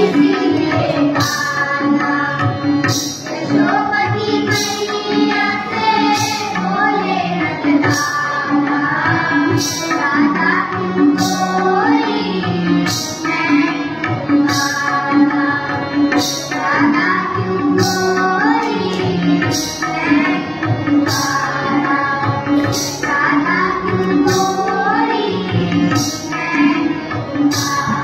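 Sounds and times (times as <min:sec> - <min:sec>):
harmonium melody: 0:00.0 - 0:28.0
people singing: 0:00.0 - 0:28.0
tabla beat: 0:00.0 - 0:28.0.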